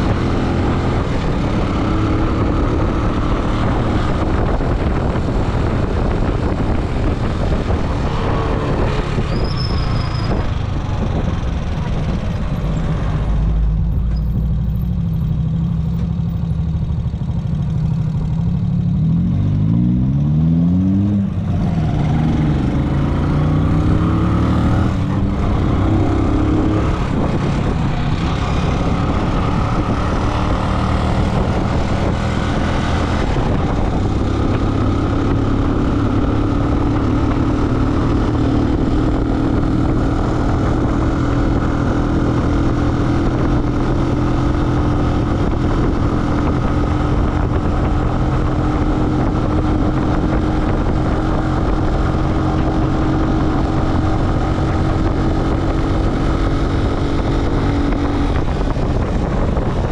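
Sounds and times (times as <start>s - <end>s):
road noise: 0.0s - 59.9s
vehicle engine driving: 0.0s - 59.9s.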